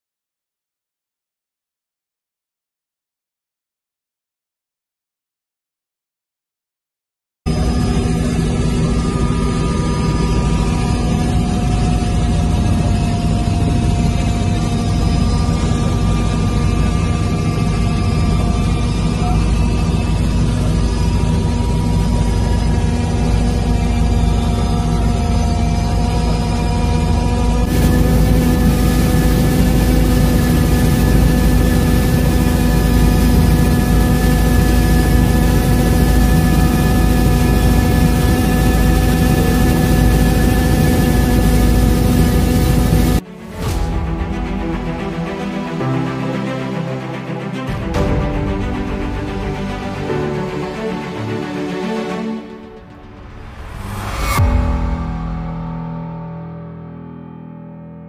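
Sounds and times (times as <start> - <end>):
helicopter turbine and rotors droning: 7.5 - 54.4.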